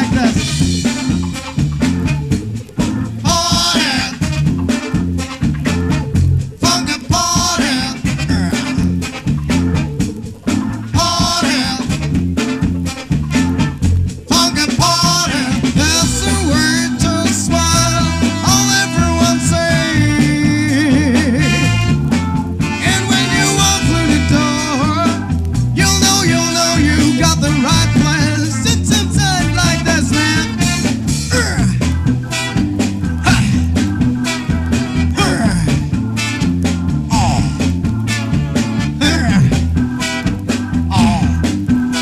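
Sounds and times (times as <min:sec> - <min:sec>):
funk band music from vinyl: 0:00.0 - 0:42.0.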